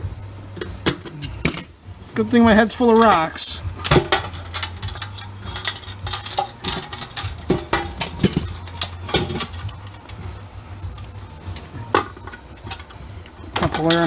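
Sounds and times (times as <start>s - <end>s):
steady low hum: 0.0s - 2.6s, 3.6s - 14.0s
metal parts clinking and knocking: 0.6s - 1.7s, 2.9s - 14.0s.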